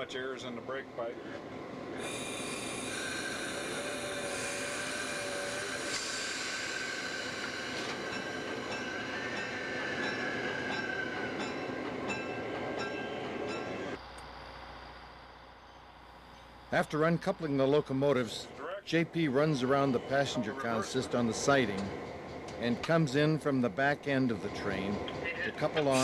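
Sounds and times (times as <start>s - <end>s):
locomotive rolling on track: 0.0s - 14.0s, 16.7s - 26.0s
rail clicks: 0.0s - 14.3s, 16.3s - 26.0s.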